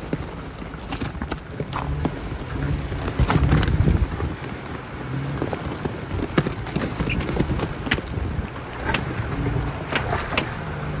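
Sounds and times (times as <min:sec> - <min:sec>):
off-road engines running slowly: 0:00.0 - 0:11.0
tyres knocking over rocks: 0:00.0 - 0:11.0
wind buffeting microphone: 0:00.0 - 0:11.0.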